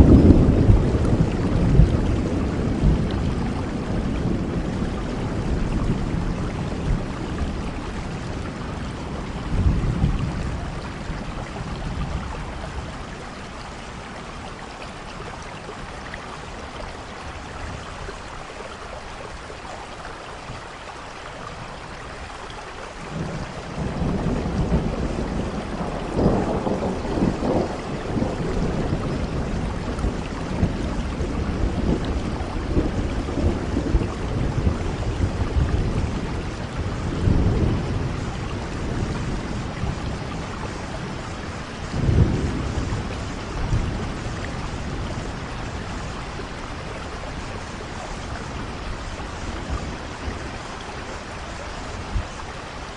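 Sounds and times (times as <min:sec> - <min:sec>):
rolling thunder: 0:00.0 - 0:14.4, 0:23.0 - 0:52.5
steady rain falling: 0:00.0 - 0:52.9.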